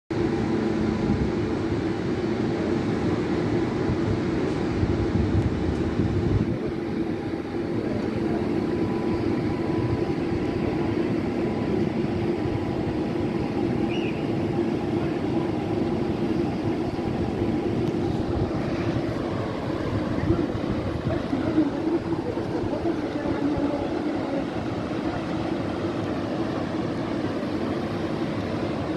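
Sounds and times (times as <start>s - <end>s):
electric train humming: 0.1s - 28.9s
tram humming along track: 0.1s - 28.9s.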